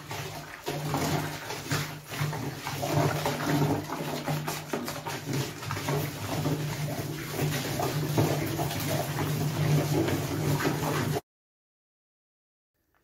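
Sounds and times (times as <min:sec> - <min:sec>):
liquid sloshing and splashing: 0:00.0 - 0:11.2
stick stirring foamy liquid: 0:00.0 - 0:11.2.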